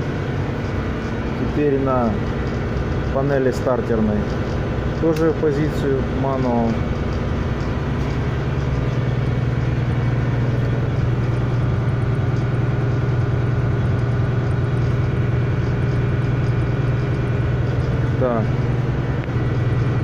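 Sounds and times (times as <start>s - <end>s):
machinery drone: 0.0s - 20.0s.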